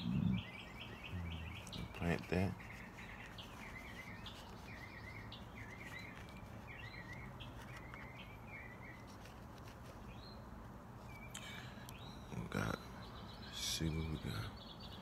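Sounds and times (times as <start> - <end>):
faint birdsong warbling: 0.0 - 15.0
low steady background hum: 0.0 - 15.0.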